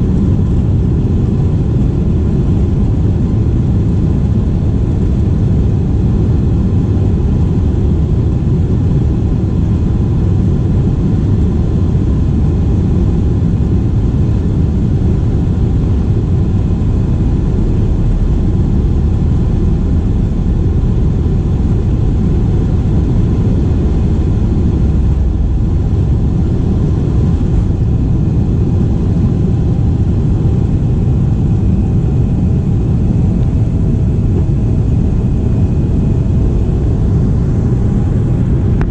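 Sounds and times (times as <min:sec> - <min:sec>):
jet engine cabin roar: 0:00.0 - 0:38.9.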